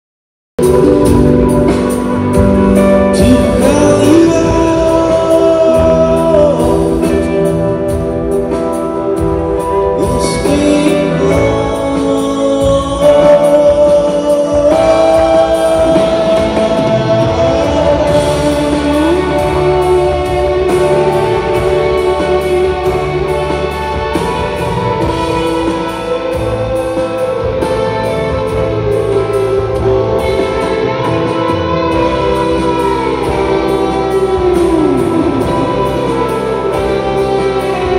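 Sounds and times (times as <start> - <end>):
live rock band playing: 0.6 - 37.9
person singing long held notes: 3.0 - 8.2, 9.8 - 37.9.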